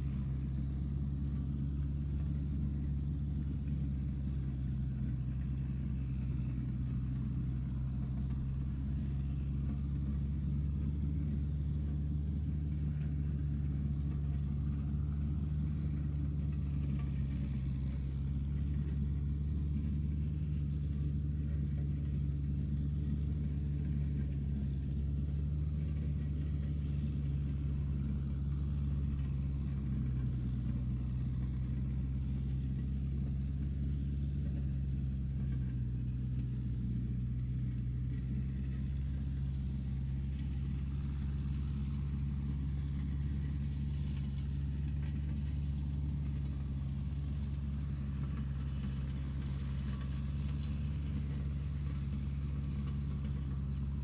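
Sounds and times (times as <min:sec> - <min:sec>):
low engine-like hum: 0:00.0 - 0:54.0.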